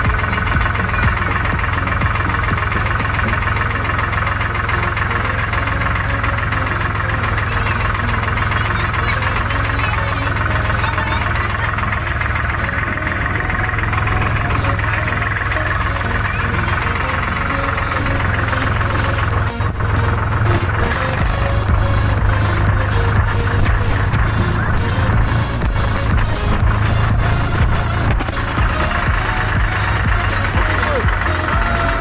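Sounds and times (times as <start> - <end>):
diesel engine chugging: 0.0 - 32.0.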